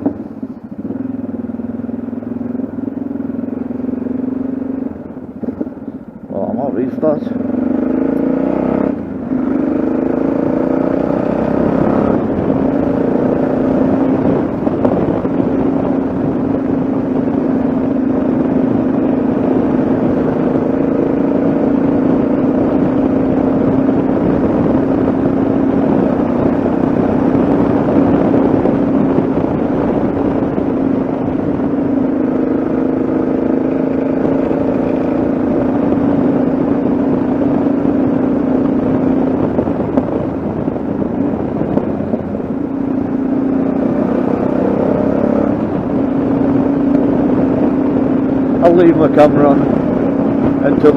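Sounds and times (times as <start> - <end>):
motorcycle engine accelerating: 0.0 - 50.9
wind and road noise: 0.0 - 50.9.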